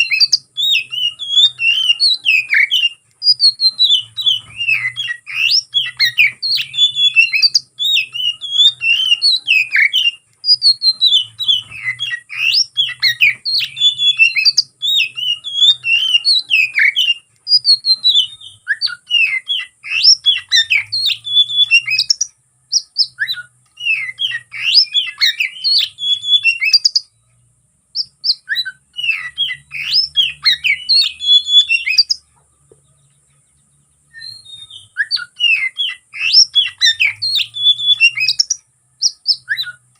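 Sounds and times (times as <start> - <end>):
songbird singing rapid chirps: 0.0 - 39.9.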